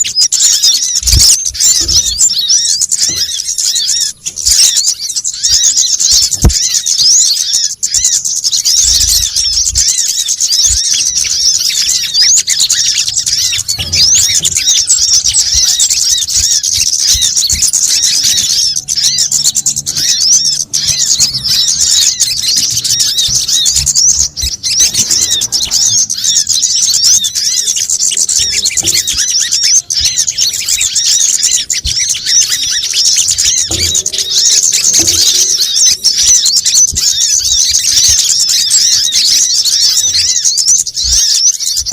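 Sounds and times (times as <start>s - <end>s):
small birds twittering: 0.0s - 41.9s.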